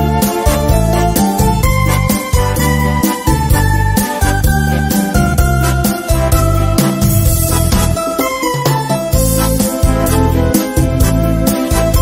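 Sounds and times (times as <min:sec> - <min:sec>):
keyboard cha-cha music: 0:00.0 - 0:12.0.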